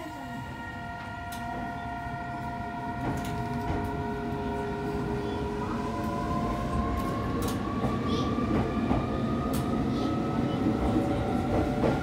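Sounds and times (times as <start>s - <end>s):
low train rumble: 0.0s - 12.0s.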